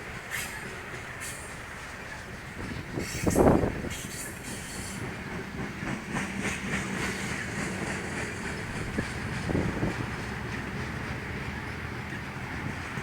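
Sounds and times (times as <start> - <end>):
train rumbling: 0.0 - 13.0
wheels clacking over rail joints: 0.0 - 13.0.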